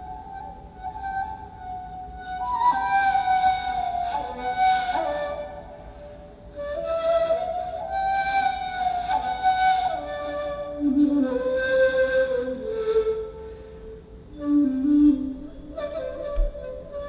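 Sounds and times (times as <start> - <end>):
reed flute melody: 0.0 - 17.0.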